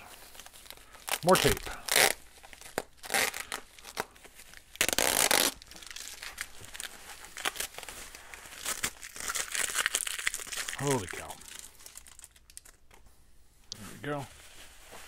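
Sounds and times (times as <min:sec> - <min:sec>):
bubble wrap crinkling: 0:00.0 - 0:13.0, 0:14.2 - 0:15.0
packing tape ripping off: 0:00.2 - 0:12.8.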